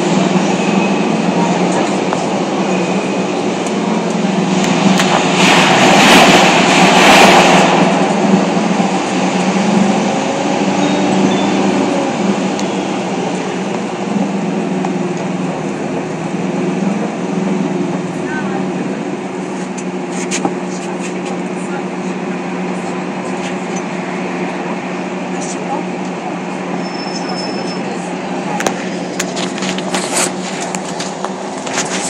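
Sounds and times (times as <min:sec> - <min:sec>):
bus engine hum: 0:00.0 - 0:32.0
road and wind noise: 0:00.0 - 0:32.0.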